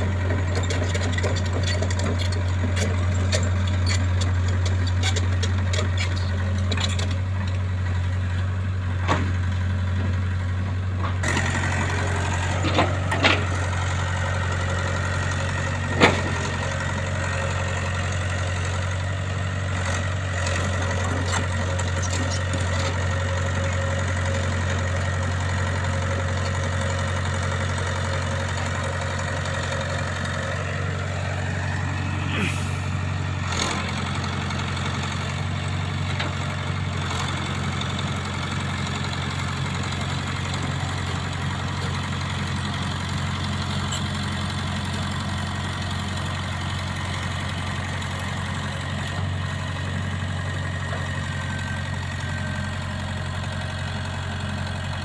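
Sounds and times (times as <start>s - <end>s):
heavy machine engine idling: 0.0s - 55.0s.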